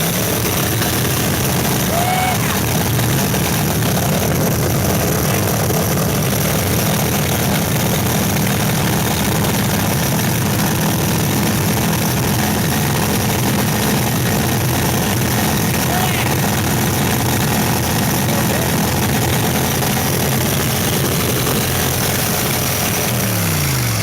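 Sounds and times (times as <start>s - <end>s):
boat engine running steadily: 0.0s - 24.0s.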